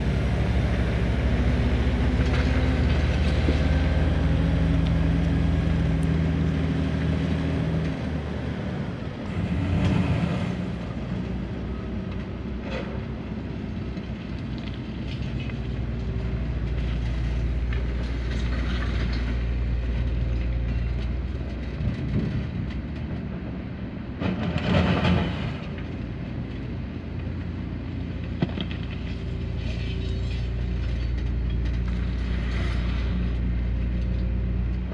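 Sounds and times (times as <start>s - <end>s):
excavator diesel engine under load: 0.0s - 34.9s.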